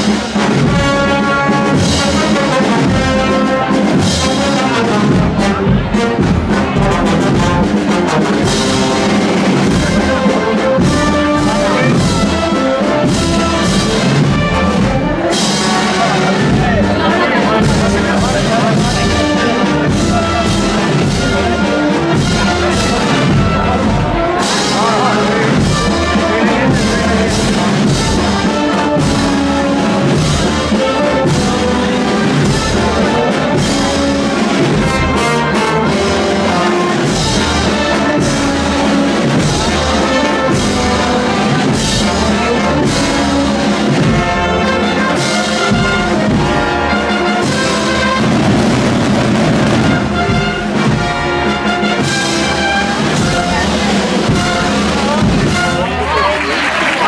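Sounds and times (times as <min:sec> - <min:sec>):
drum strokes: 0:00.0 - 0:56.2
brass band playing march: 0:00.0 - 0:57.0.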